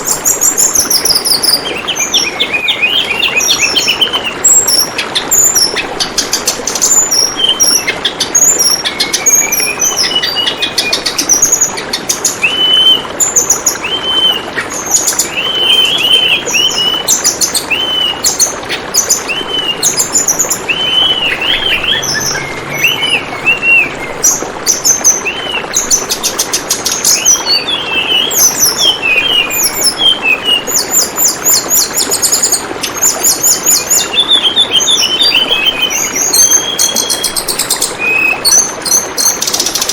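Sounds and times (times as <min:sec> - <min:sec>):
songbird whistling and trilling: 0:00.0 - 0:39.9
water trickling: 0:00.0 - 0:39.9.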